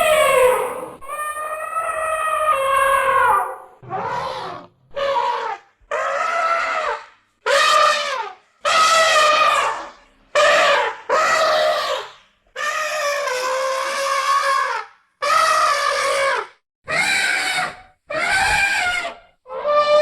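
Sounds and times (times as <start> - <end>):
elephant trumpeting: 0.0 - 20.0.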